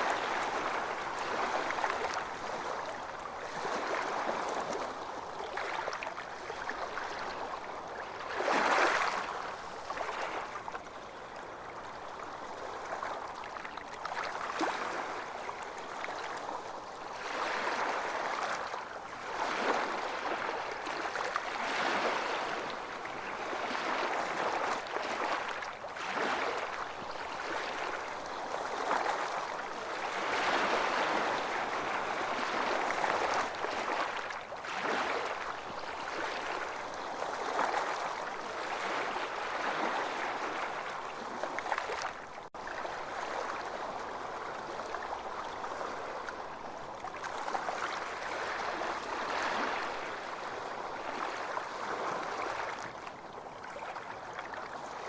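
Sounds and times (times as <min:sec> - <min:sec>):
ocean waves on beach: 0:00.0 - 0:55.0.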